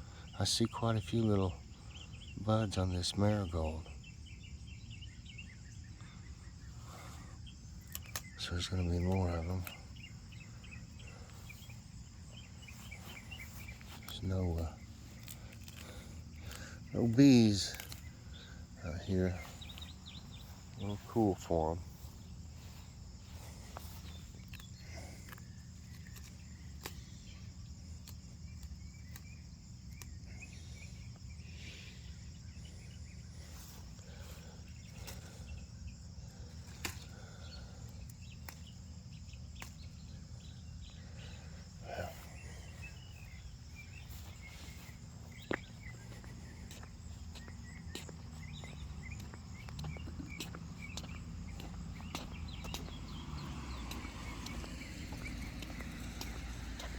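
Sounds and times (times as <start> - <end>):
insects droning: 0.0 - 56.9.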